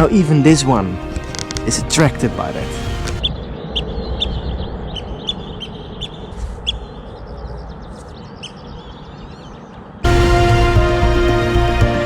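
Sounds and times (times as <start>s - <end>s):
shorebirds calling: 0.0s - 9.9s.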